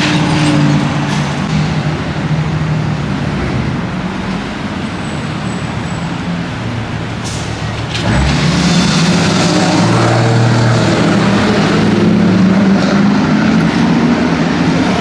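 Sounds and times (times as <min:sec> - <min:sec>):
street traffic noise: 0:00.0 - 0:15.0
truck engine humming: 0:00.0 - 0:15.0.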